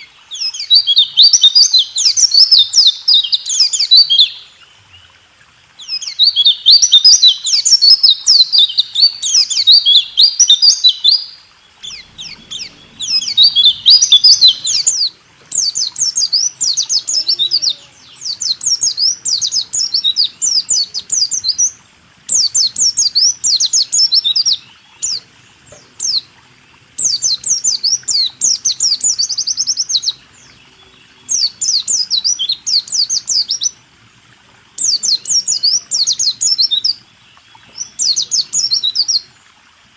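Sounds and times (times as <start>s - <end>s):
bird singing rapid chirps: 0.0s - 4.4s, 5.8s - 26.3s, 26.9s - 33.8s, 34.8s - 39.3s.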